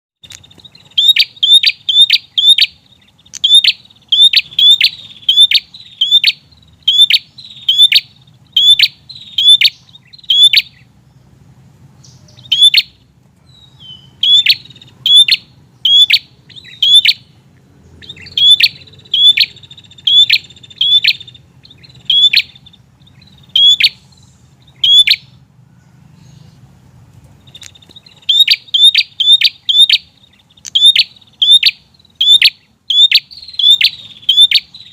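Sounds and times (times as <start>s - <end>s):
bird chirping: 0.2s - 34.9s.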